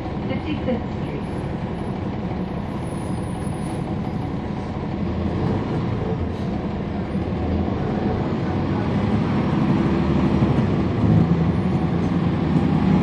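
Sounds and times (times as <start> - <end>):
bus engine drone: 0.0 - 13.0
road rumble: 0.0 - 13.0.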